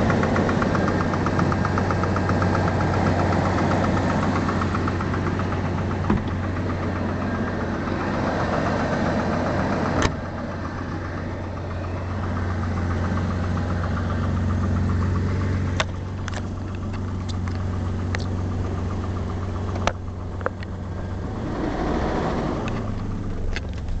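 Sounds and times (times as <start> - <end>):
car engine idling: 0.0 - 24.0
rapid engine knock: 0.0 - 24.0.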